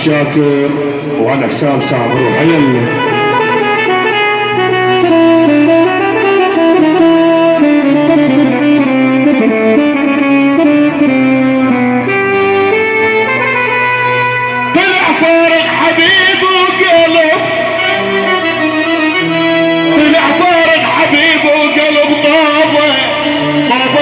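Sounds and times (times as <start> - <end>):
reedy lead melody: 0.0 - 24.0.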